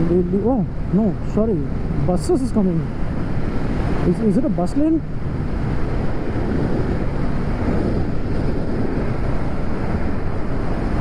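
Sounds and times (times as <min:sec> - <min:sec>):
road noise: 0:00.0 - 0:11.0
wind rushing over microphone: 0:00.0 - 0:11.0.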